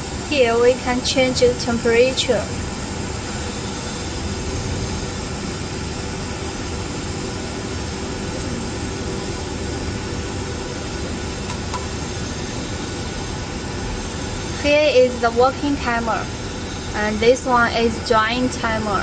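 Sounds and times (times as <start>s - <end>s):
machine hiss and hum: 0.0s - 19.0s.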